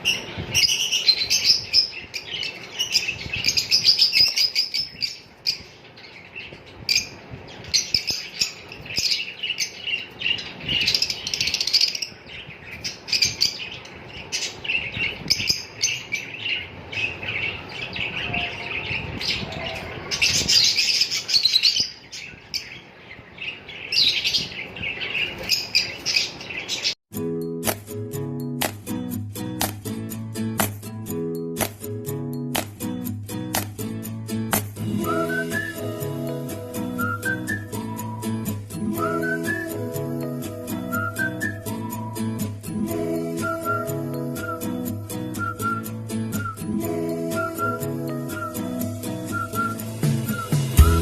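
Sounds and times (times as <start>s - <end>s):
lovebirds chirping and chattering: 0.0s - 27.0s, 29.4s - 51.0s.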